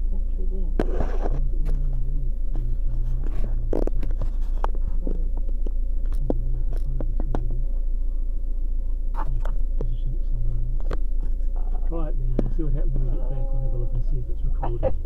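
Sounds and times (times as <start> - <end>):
car engine hum: 0.0 - 15.0
low tones: 0.0 - 15.0.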